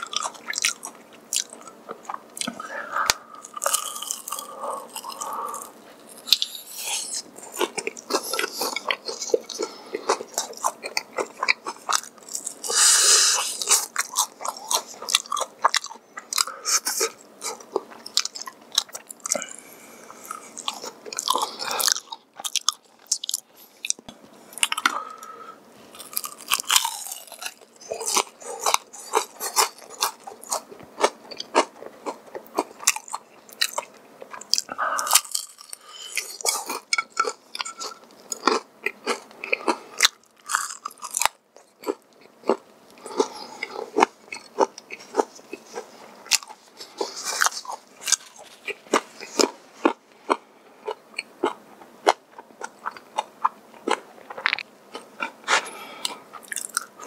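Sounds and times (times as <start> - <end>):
crunching and chewing fried chicken: 0.0 - 57.0.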